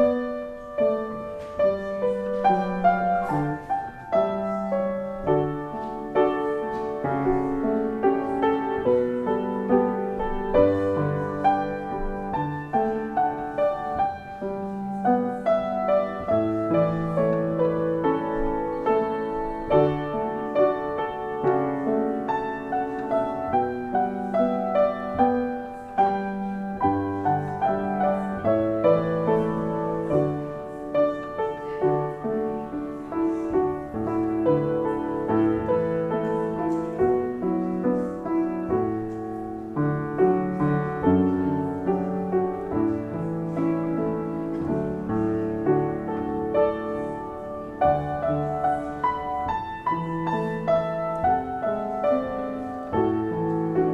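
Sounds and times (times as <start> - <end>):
solo piano playing: 0.0 - 53.9.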